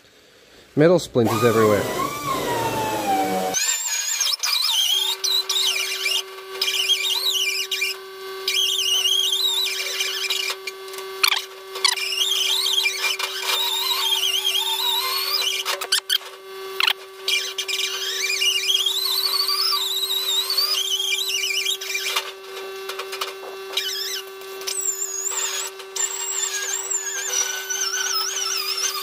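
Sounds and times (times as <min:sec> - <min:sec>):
die grinder motor whine: 0:01.2 - 0:29.0
burr screeching on metal: 0:01.3 - 0:29.0.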